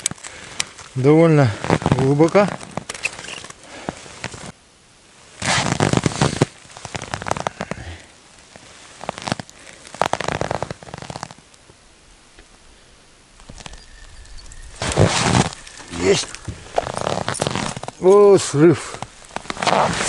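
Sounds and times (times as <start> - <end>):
crackling rustling bursts: 0.0 - 4.6, 5.3 - 20.0.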